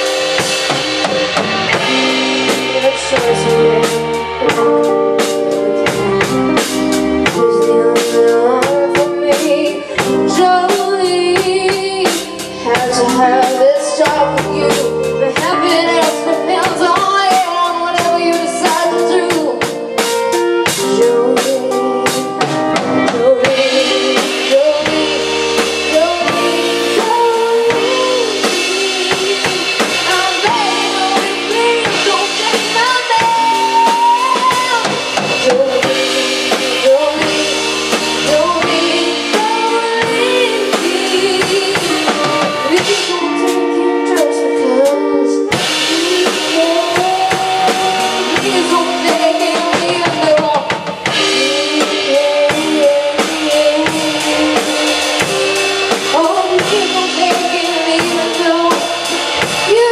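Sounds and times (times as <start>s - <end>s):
bass guitar: 0.0s - 59.9s
drum kit: 0.0s - 59.9s
electric guitar: 0.0s - 59.9s
woman singing: 0.0s - 59.9s.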